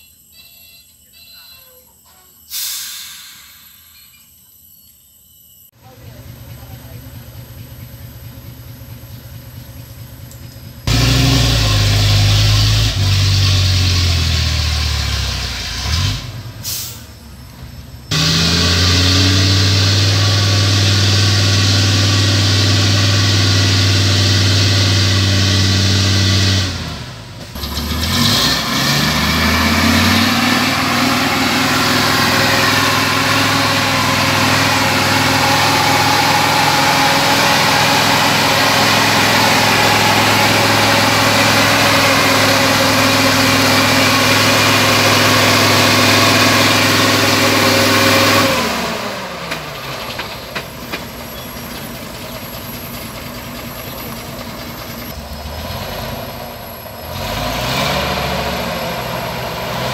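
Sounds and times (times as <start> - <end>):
diesel truck engine labouring: 5.8 - 59.9.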